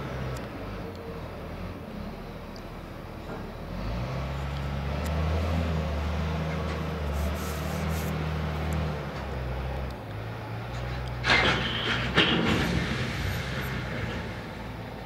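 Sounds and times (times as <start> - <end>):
train engine drone: 0.0 - 15.0.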